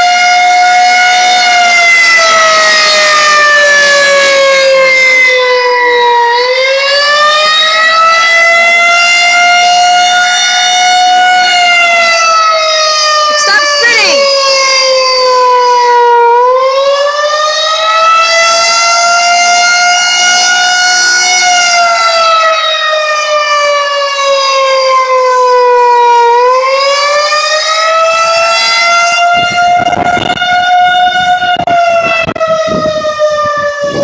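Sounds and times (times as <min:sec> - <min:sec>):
warning siren wailing: 0:00.0 - 0:34.0.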